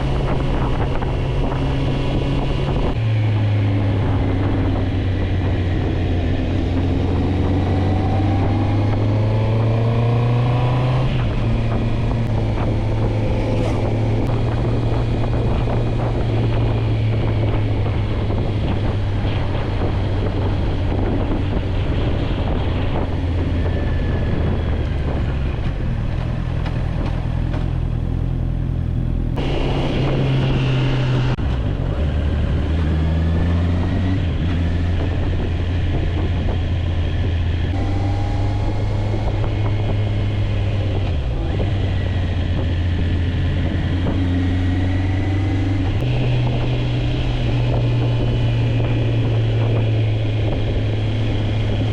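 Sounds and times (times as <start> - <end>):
wind rushing over microphone: 0.0 - 28.1, 28.8 - 51.9
motorcycle engine running: 0.0 - 51.9.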